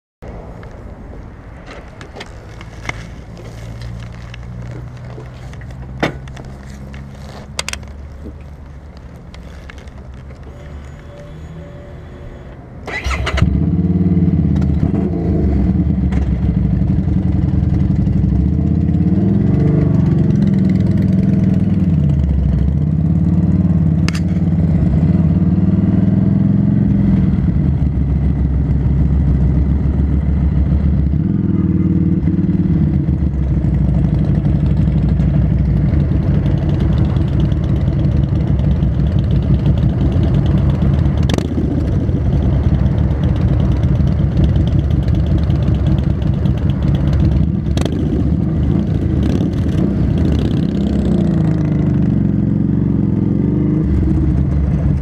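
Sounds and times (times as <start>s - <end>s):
motorcycle engine starting and revving: 1.6s - 11.9s, 12.8s - 55.0s.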